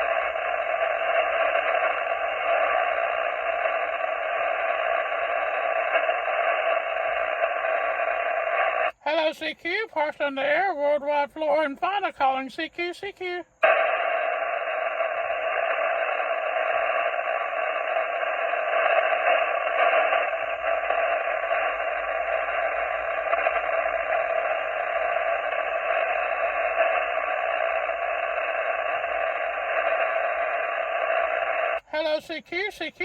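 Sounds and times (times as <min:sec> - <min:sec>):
radio receiver hiss: 0:00.0 - 0:33.0.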